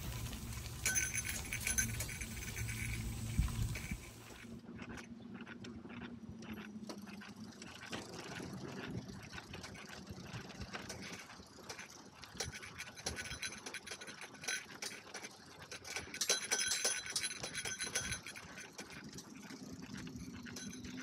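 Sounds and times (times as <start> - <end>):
bicycle rolling and rattling: 0.0 - 21.0.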